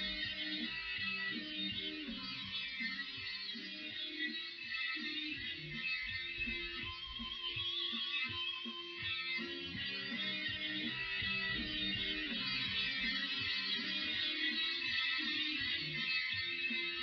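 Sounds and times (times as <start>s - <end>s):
instrumental music: 0.0s - 17.0s.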